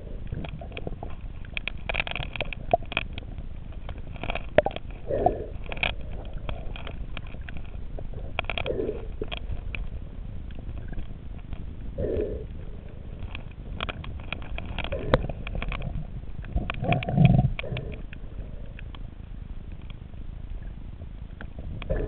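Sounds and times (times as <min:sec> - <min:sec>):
muffled underwater rumble: 0:00.0 - 0:22.0
sharp clicks and crackles: 0:00.0 - 0:22.0.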